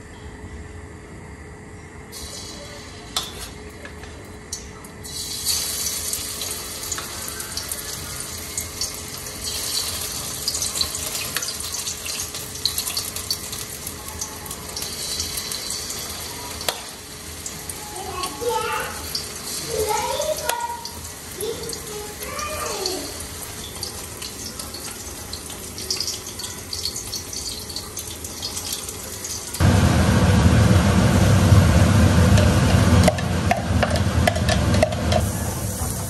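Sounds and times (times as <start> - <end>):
chicken sizzling in oil: 5.0 - 36.0.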